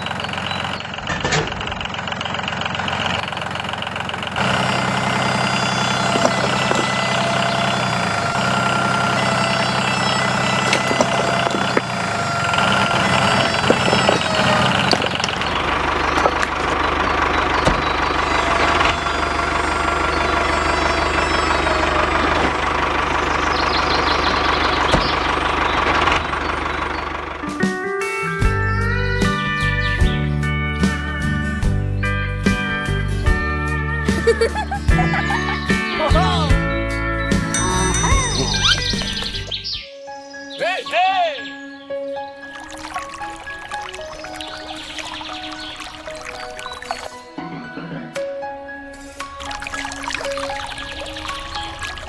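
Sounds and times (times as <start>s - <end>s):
tractor engine idling: 0.0s - 39.8s, 43.2s - 52.0s.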